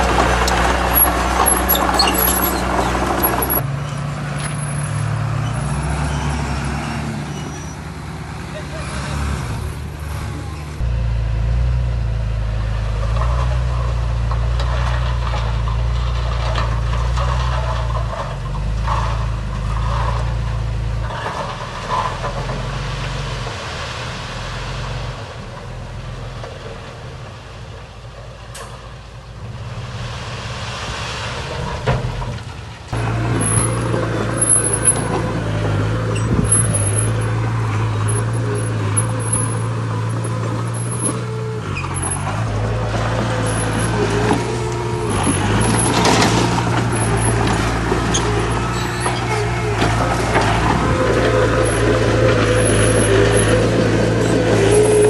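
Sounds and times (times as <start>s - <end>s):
diesel machinery engine running: 0.0s - 30.8s, 31.4s - 55.0s.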